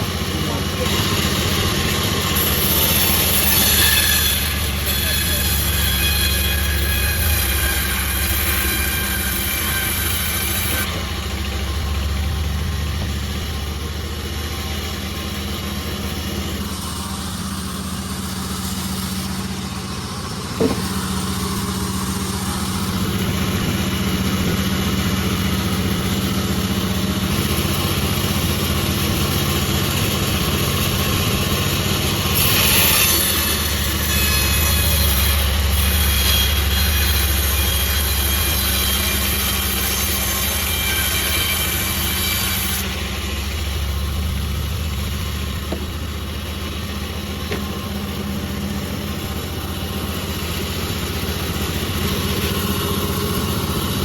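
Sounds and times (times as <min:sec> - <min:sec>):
saw cutting through wood: 0:00.0 - 0:54.0.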